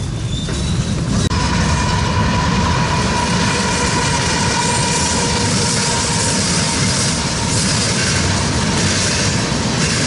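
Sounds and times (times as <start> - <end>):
diesel locomotive engines rumbling: 0.0 - 10.0
freight cars rolling: 0.0 - 10.0.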